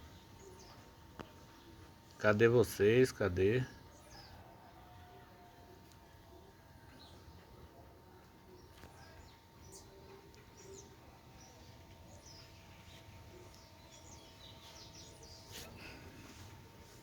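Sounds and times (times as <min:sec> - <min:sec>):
wild birds chirping: 0:00.0 - 0:17.0.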